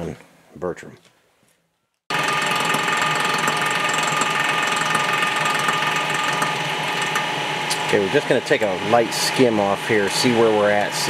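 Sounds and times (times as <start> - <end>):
block-surfacing machine whining: 2.1 - 11.0.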